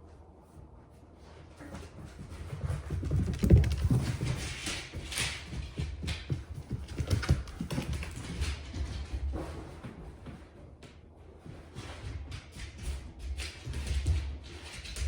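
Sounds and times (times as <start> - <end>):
dog claws clicking on hard floor: 1.7 - 15.0.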